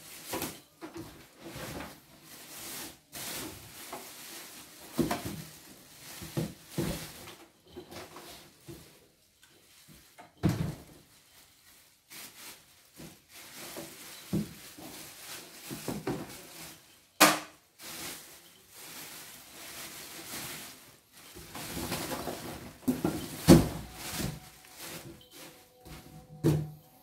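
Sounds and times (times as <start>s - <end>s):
plastic bags rustling: 0.0s - 27.0s.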